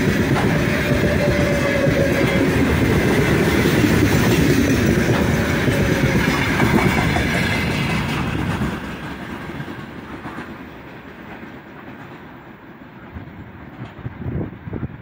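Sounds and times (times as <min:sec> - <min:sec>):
train wagons rolling on rails: 0:00.0 - 0:15.0.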